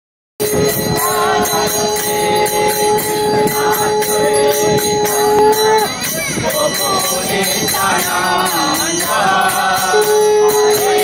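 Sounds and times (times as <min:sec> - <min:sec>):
hand bell ringing: 0:00.4 - 0:11.0
voices singing devotional song: 0:00.4 - 0:11.0.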